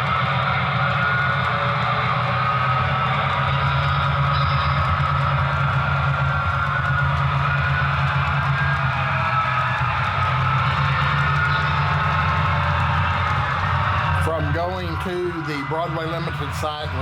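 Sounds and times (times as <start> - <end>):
model diesel locomotive drone: 0.0 - 17.0.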